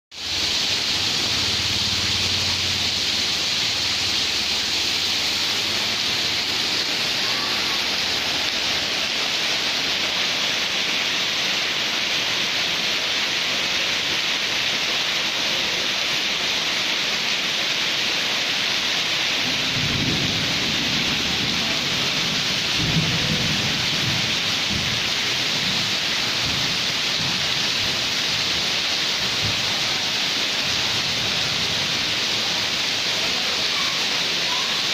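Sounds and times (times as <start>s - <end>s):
heavy rain on paving: 0.1s - 34.9s.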